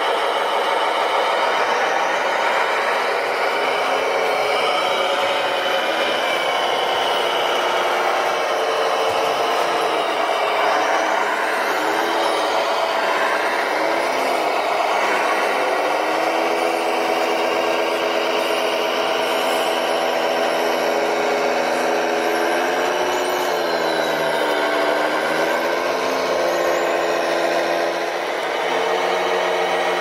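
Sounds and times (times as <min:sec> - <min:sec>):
toy trucks mechanical hum: 0:00.0 - 0:30.0.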